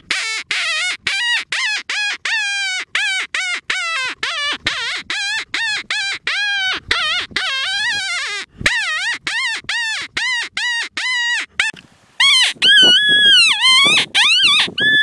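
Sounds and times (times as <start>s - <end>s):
predator call wavering cries: 0.0s - 15.0s
predator call yelps: 0.1s - 15.0s.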